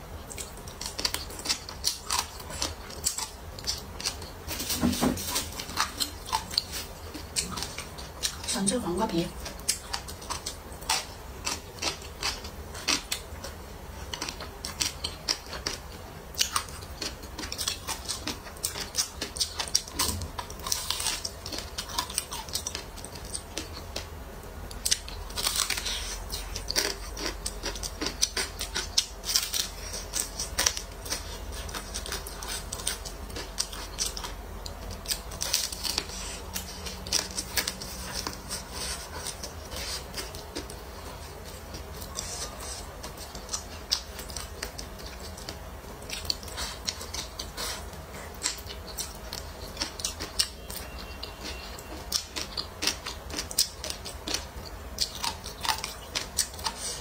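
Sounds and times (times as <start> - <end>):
crunching and chewing fried chicken: 0.0 - 57.0.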